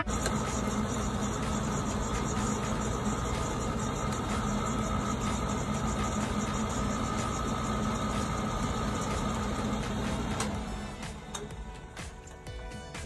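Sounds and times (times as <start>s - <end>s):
motor hum: 0.0s - 12.1s.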